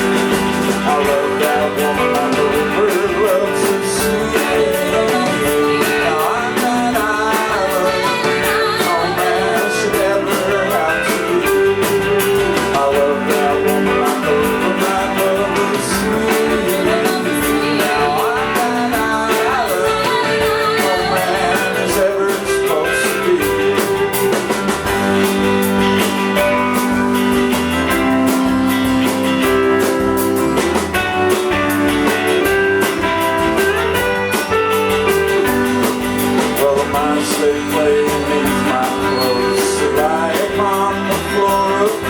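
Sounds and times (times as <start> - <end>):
person singing: 0.0 - 25.6, 27.9 - 42.0
drums: 0.0 - 42.0
electric guitars: 0.0 - 42.0.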